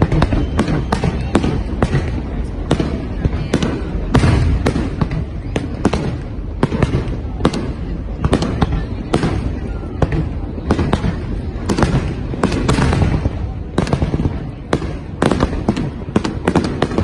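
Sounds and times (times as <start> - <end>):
continuous low rumble: 0.0 - 17.0
fireworks bangs and crackles: 0.0 - 17.0.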